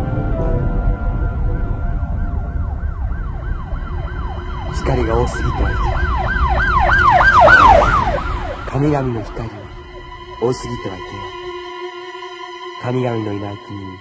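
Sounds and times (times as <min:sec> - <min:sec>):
steady low rumble: 0:00.0 - 0:12.2
siren sweeping up and down: 0:00.8 - 0:12.9.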